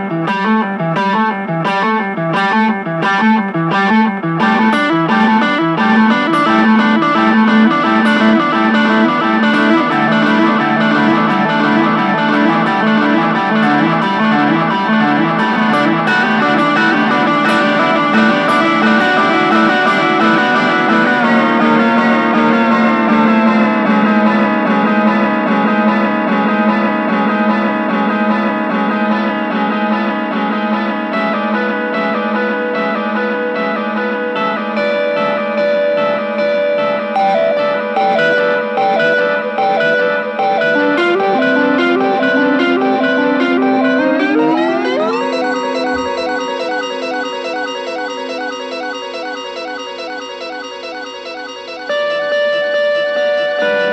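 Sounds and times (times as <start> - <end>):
electric guitar with echoing delay: 0.0 - 53.9.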